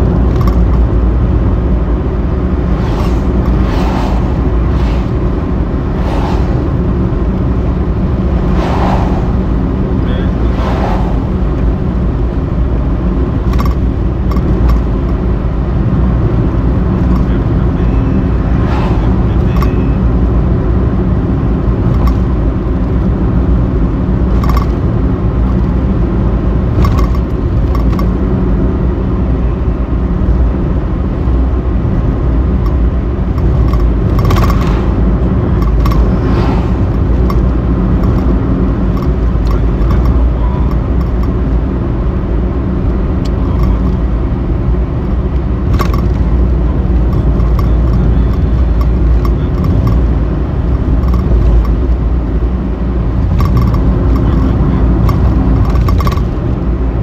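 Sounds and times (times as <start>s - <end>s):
car road and engine noise: 0.0s - 57.0s.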